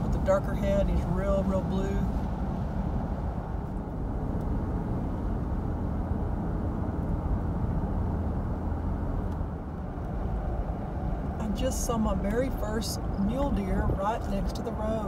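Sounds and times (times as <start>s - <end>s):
car interior road and engine noise: 0.0s - 15.0s.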